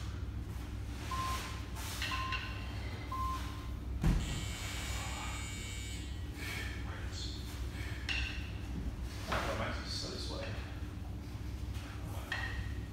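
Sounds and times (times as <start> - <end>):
gym hall hum: 0.0 - 12.9.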